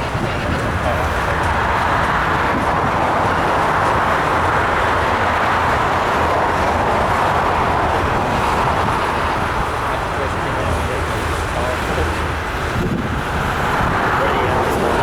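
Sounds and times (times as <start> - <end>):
freight train cars rolling past: 0.0 - 15.0
steel wheels on rail: 0.0 - 15.0.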